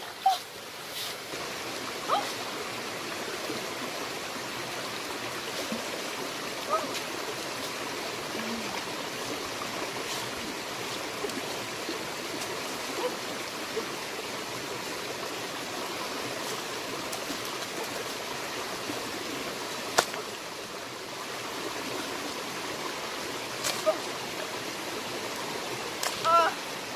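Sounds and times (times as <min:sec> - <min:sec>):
running water rushing: 0:00.0 - 0:26.9.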